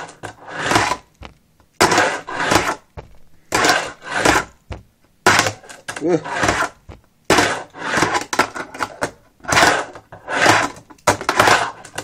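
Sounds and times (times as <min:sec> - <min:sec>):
fingerboard wheels rolling on metal ramp: 0:00.0 - 0:01.1, 0:01.8 - 0:02.8, 0:03.5 - 0:04.6, 0:05.3 - 0:12.0.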